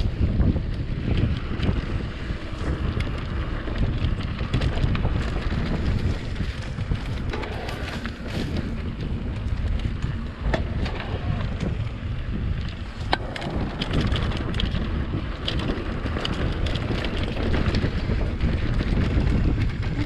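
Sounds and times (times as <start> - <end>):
bike clicks and knocks on trail: 0.0 - 20.0
wind buffeting microphone: 0.0 - 20.0.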